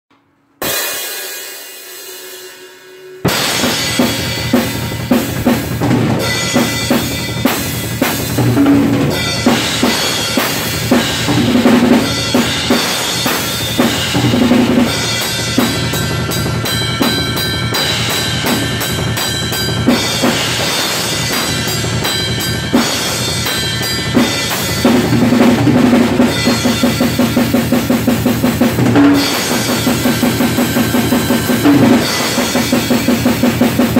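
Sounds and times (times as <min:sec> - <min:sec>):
drum kit played hard: 0:00.6 - 0:33.9.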